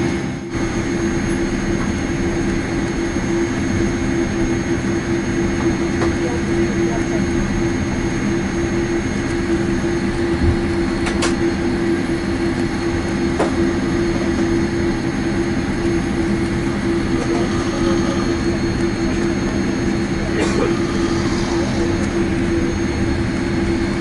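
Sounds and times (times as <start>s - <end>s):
aircraft engine hum: 0.0s - 24.0s.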